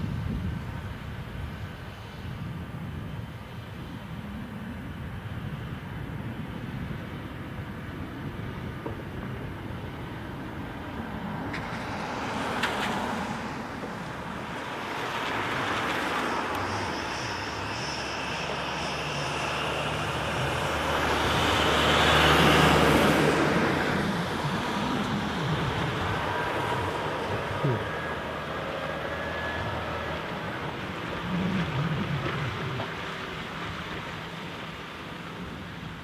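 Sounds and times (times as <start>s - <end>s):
low engine hum: 0.0s - 36.0s
road traffic passing: 0.0s - 36.0s
van passing: 6.9s - 36.0s.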